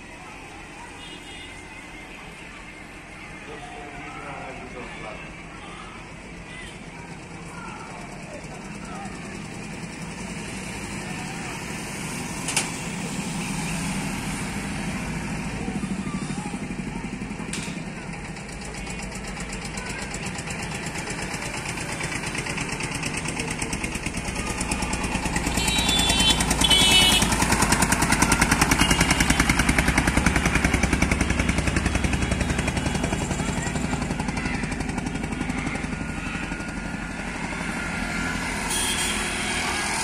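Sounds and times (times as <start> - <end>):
vehicle engine passing by: 7.1 - 40.0.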